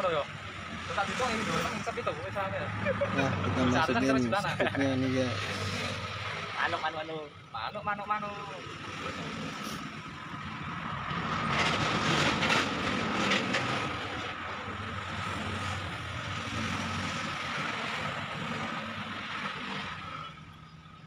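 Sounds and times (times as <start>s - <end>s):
engine droning with whine: 0.0s - 21.0s.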